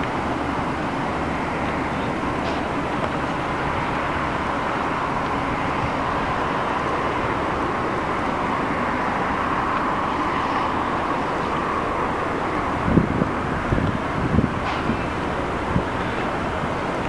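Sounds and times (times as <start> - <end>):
distant excavator engine rumble: 0.0 - 17.0.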